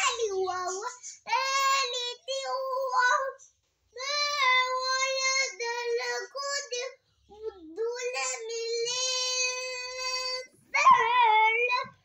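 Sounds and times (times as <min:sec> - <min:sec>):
boy chanting melodic recitation: 0:00.0 - 0:03.4, 0:04.0 - 0:11.9.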